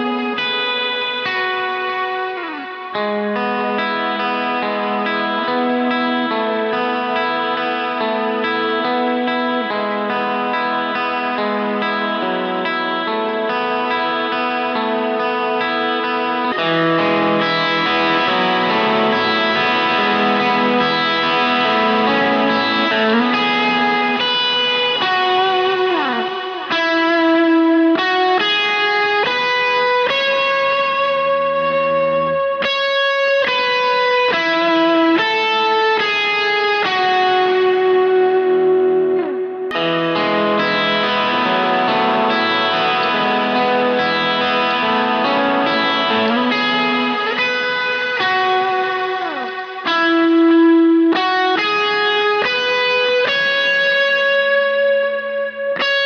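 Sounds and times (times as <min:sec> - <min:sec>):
electric guitar lead melody: 0:00.0 - 0:56.0.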